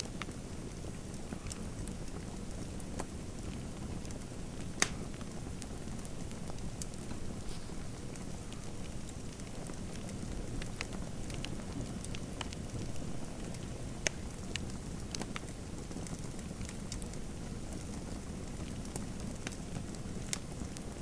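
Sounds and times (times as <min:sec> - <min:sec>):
low rumble of flame: 0:00.0 - 0:21.0
wood fire crackling and popping: 0:00.0 - 0:21.0.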